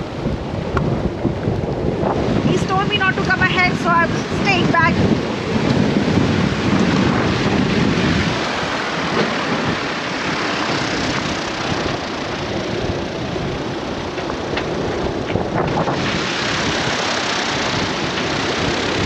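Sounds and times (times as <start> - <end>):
gusty wind on microphone: 0.0 - 19.0.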